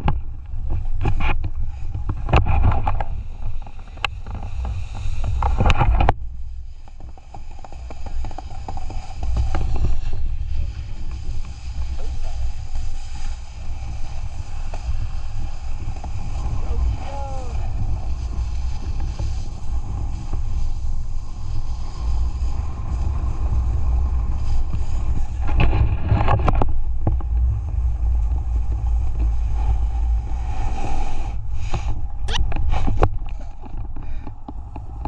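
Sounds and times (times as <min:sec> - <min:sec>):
sharp crackles: 0:00.0 - 0:35.0
wind rumbling on microphone: 0:00.0 - 0:35.0.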